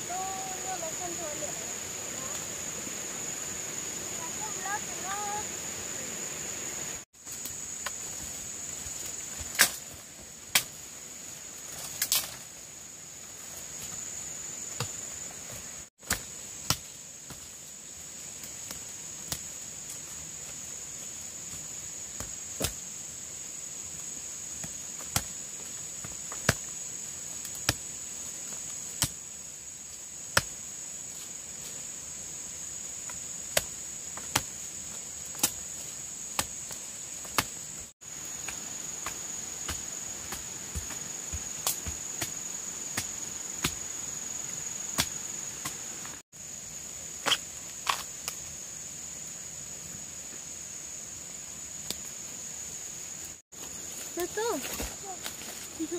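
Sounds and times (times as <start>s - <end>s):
insects droning: 0.0s - 55.9s.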